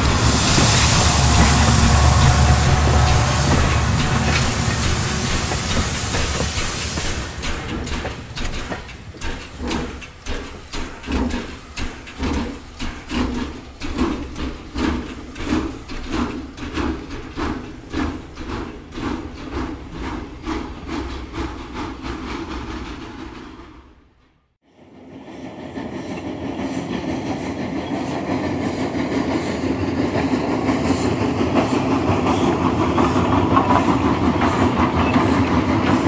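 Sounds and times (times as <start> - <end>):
steam hissing: 0.0 - 23.8, 25.2 - 36.0
locomotive chuffing: 0.0 - 24.2, 24.9 - 36.0.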